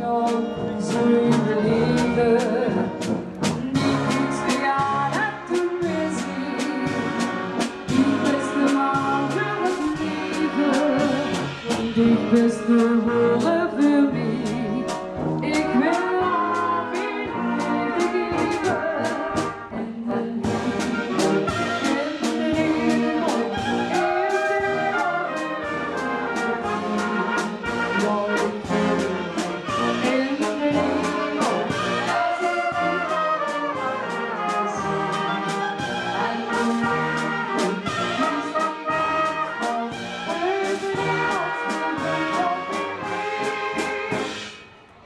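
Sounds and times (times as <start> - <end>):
brass band playing: 0.0 - 45.0.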